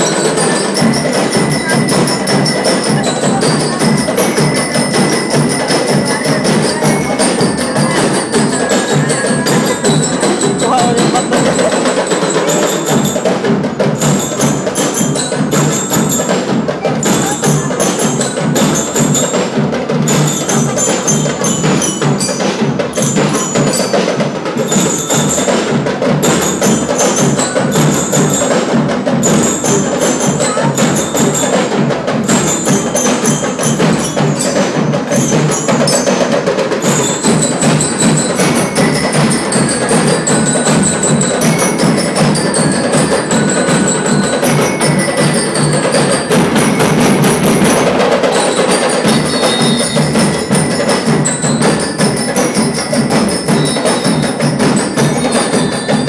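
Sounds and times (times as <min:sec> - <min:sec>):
bell lyres ringing melody: 0:00.0 - 0:56.0
drums beating rapid rhythm: 0:00.0 - 0:56.0.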